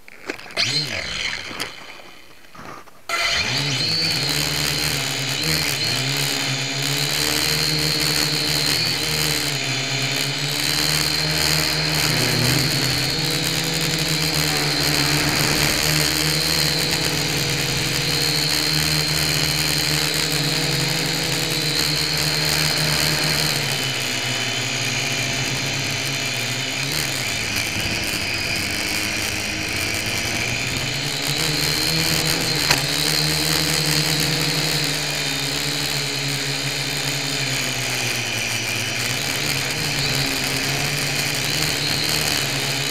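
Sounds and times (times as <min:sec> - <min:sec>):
toy drone motors whirring: 0:00.2 - 0:42.9.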